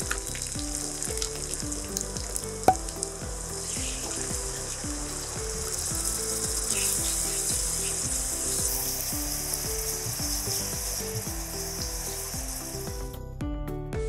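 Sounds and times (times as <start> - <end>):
onions and spices sizzling in oil: 0.0 - 13.2
soft background music: 0.0 - 14.0.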